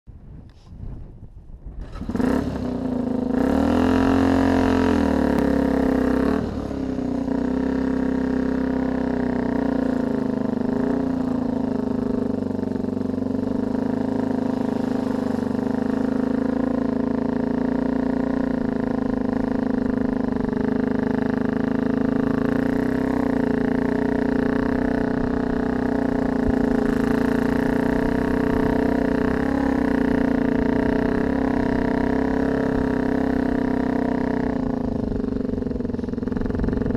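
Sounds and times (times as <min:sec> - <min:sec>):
vehicle engine running: 0:00.3 - 0:36.9.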